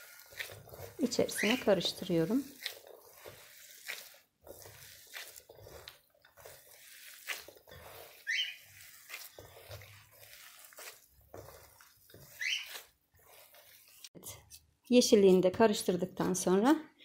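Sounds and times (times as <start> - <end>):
hands kneading wet paste: 0.0 - 17.0.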